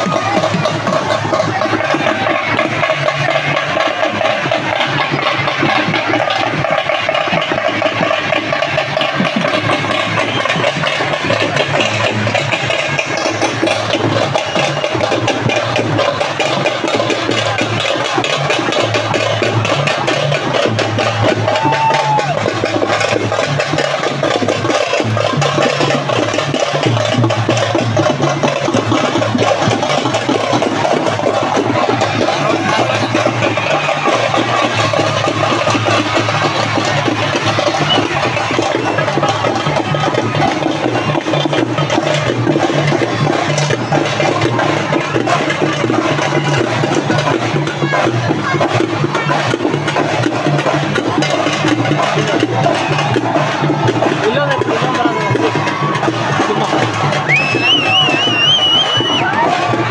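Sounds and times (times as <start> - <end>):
drums playing fast beat: 0.0 - 59.9.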